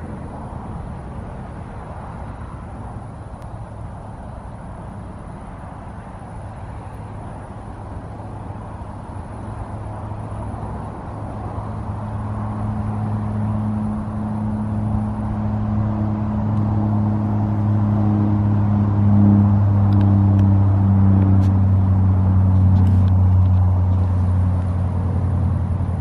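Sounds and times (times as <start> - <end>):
motor vehicle engine humming: 0.0 - 26.0
rushing background noise: 0.0 - 26.0.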